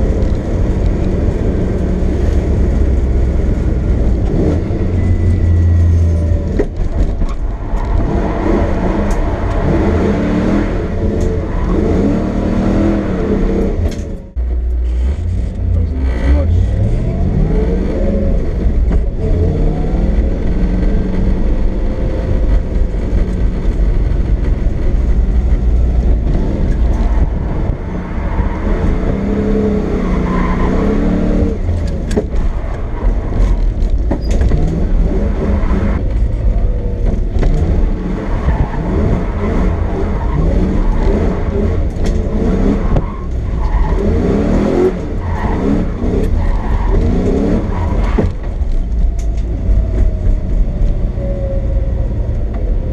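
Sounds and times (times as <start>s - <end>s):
car engine revving: 0.0s - 52.9s
heavy low rumble: 0.0s - 52.9s.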